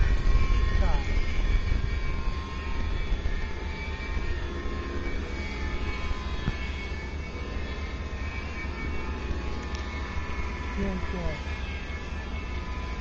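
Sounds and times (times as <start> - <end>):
propellers high-pitched whine: 0.0 - 13.0
wind rumble on microphone: 0.0 - 13.0.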